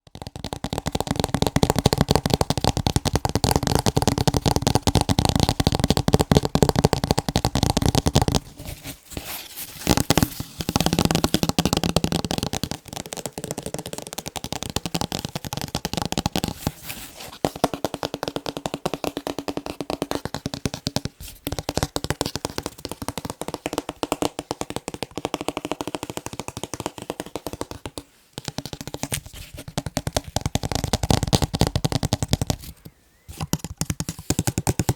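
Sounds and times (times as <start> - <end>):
fast tapping on picture frames: 0.0 - 8.8, 9.8 - 34.9.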